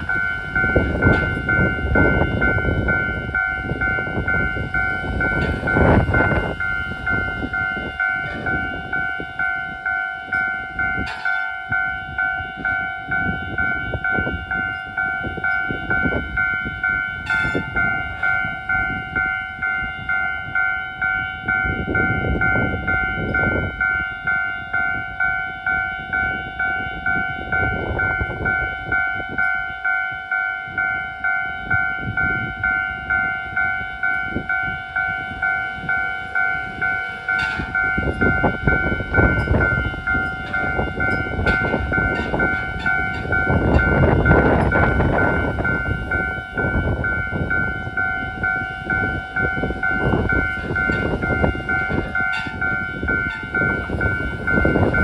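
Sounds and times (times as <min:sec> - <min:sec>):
level-crossing warning bell: 0:00.0 - 0:55.0
low rushing noise gusts: 0:00.0 - 0:55.0.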